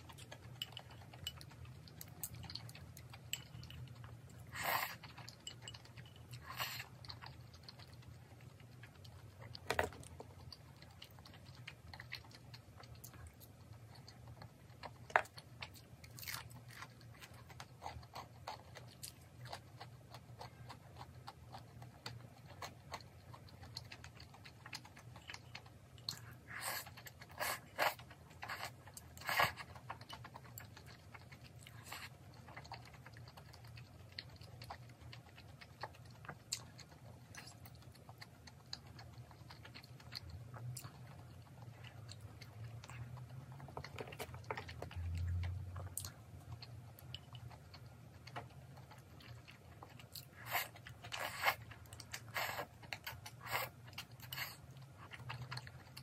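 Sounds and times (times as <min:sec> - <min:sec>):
chewing: 0:00.0 - 0:56.0
faint low hum: 0:00.0 - 0:56.0.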